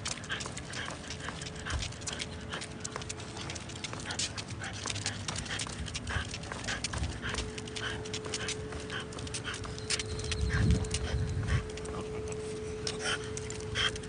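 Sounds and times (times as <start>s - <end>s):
dog claws clicking on concrete: 0.0s - 14.0s
dog panting noisily: 0.0s - 14.0s.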